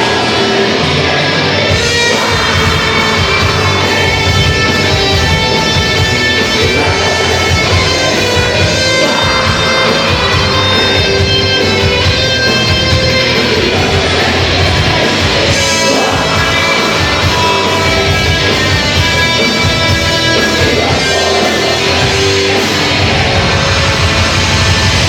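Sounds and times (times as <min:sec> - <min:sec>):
metal band playing: 0:00.0 - 0:25.0.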